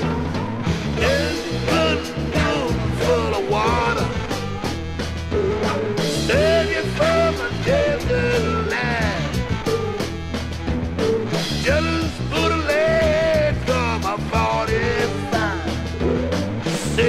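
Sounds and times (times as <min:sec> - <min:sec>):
drums: 0:00.0 - 0:17.0
electric lead guitar bent notes: 0:00.0 - 0:17.0
repeating bass line: 0:00.0 - 0:17.0.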